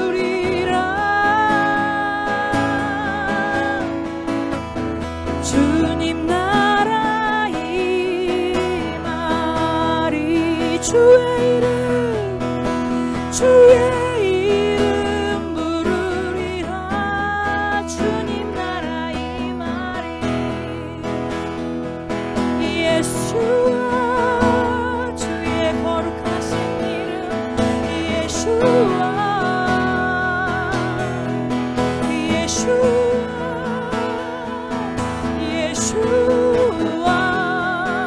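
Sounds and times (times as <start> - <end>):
woman singing a worship song: 0.0 - 4.0, 5.4 - 12.5, 13.1 - 21.1, 22.5 - 38.0
strummed acoustic guitar: 0.0 - 38.0.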